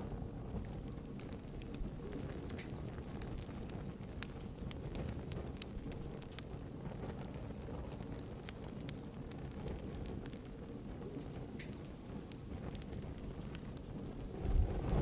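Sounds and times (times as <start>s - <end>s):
logs crackling and popping: 0.0s - 15.0s
low rush of flames: 0.0s - 15.0s.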